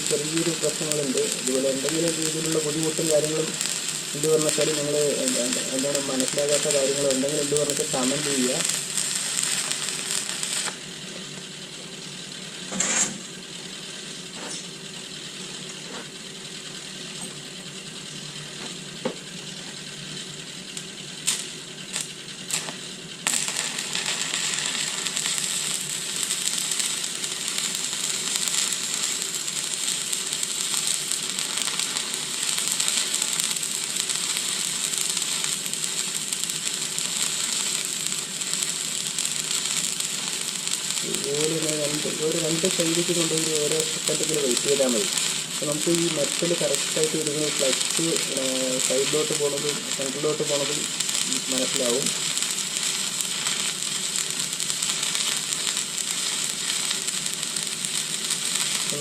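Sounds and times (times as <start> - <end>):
welding arc crackling: 0.0 - 59.0.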